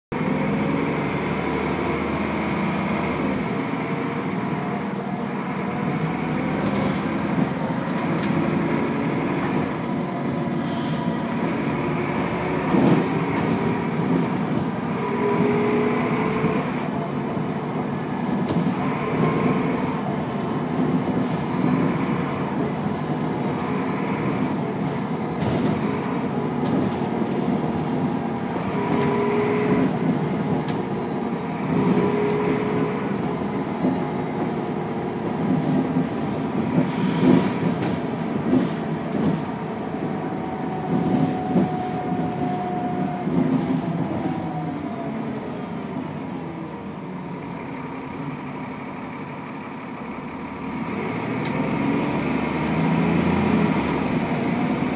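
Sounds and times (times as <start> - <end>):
bus engine and road noise: 0.0 - 54.9.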